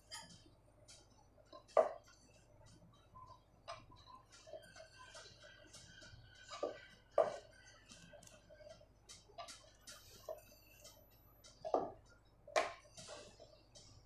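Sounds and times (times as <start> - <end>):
rolling pin ticking on wooden board: 0.9 - 14.0.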